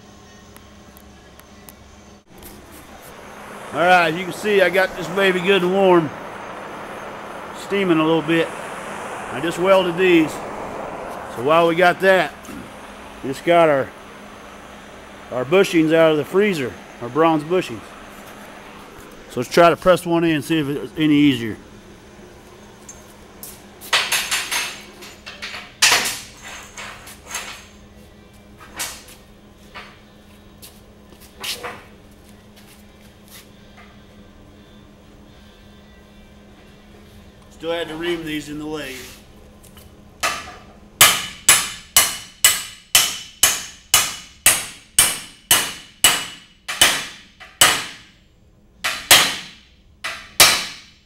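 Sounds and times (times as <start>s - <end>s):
faint steady hum: 0.0s - 50.8s.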